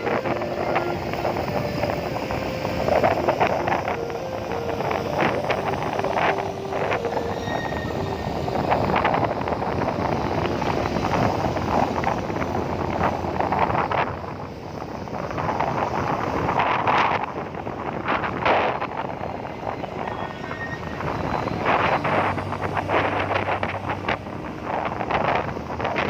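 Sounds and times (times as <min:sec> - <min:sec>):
low engine rumble: 0:00.0 - 0:26.0
wind buffeting microphone: 0:00.0 - 0:26.0.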